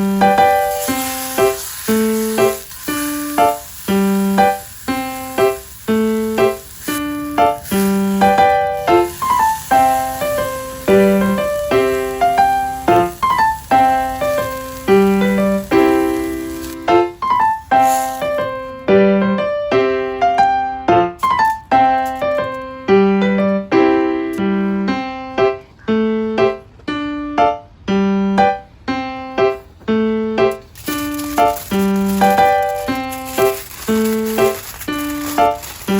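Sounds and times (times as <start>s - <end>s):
piano tune with bass: 0.0s - 35.9s.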